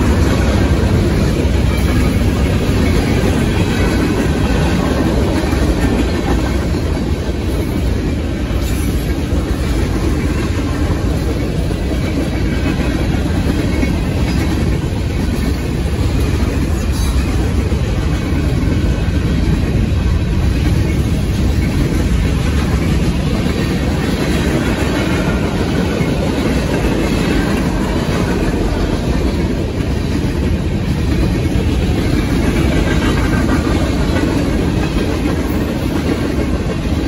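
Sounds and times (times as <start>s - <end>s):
steel wheels on rails: 0.0s - 37.0s.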